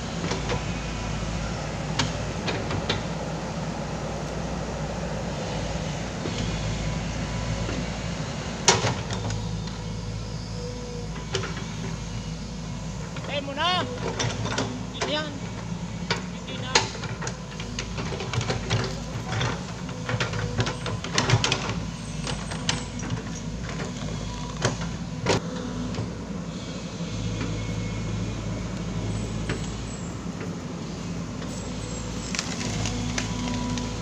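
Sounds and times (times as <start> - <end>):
excavator diesel engine under load: 0.0 - 34.0.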